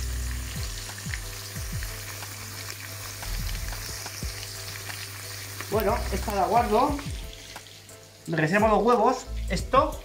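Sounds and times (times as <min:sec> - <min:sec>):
potato slices sizzling in oil: 0:00.0 - 0:10.0.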